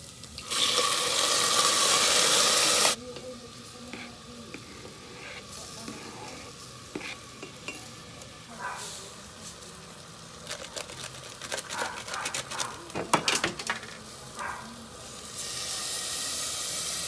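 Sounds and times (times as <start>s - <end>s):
meat sizzling in hot oil: 0.0s - 11.4s, 12.9s - 17.0s.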